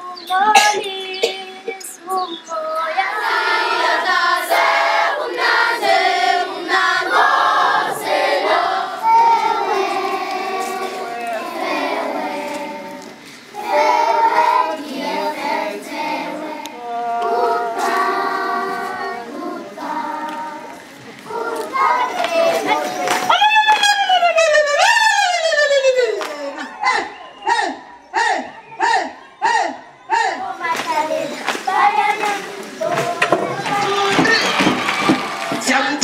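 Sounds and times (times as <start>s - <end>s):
children's choir singing: 0.0s - 23.3s, 30.1s - 36.0s.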